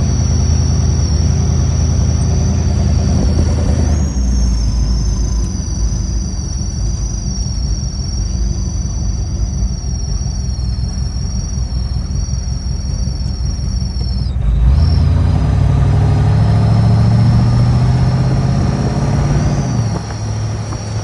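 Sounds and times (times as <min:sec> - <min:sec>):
high-pitched double whine: 0:00.0 - 0:21.0
vehicle engine low rumble: 0:00.0 - 0:21.0.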